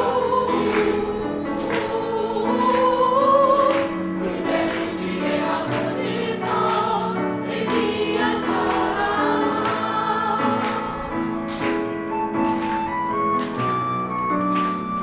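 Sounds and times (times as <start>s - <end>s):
choir singing: 0.0s - 15.0s
instrumental accompaniment: 0.0s - 15.0s.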